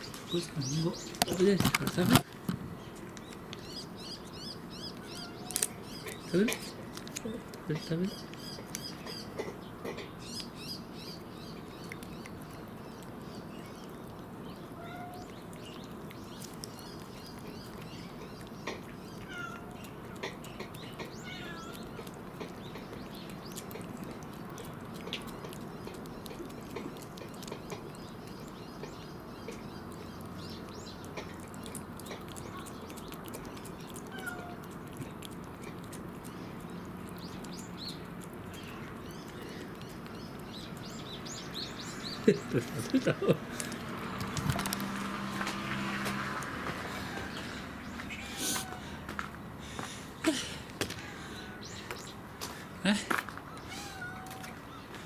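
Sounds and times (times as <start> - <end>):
cats chewing wetly: 0.0 - 55.0.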